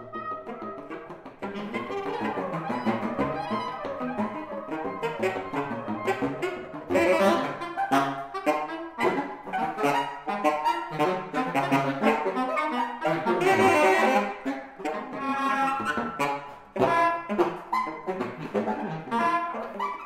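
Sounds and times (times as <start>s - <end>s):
saxophones improvising: 0.0s - 20.0s.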